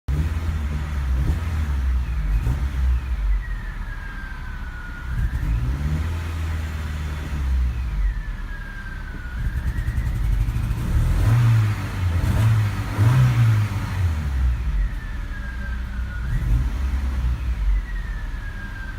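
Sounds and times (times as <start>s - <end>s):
cold engine stumbling and revving: 0.0s - 18.9s.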